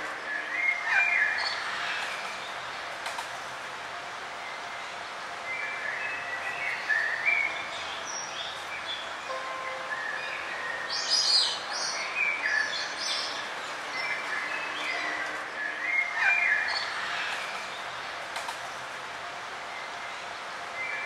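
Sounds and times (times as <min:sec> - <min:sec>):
forest ambience hiss: 0:00.0 - 0:21.0
songbirds chirping and trilling: 0:00.0 - 0:21.0.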